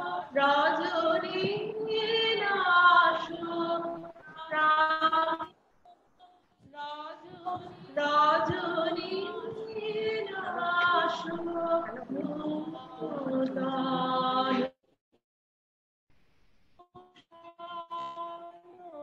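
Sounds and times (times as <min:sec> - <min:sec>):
woman singing through video call: 0:00.0 - 0:05.5, 0:06.2 - 0:14.7, 0:16.8 - 0:19.0.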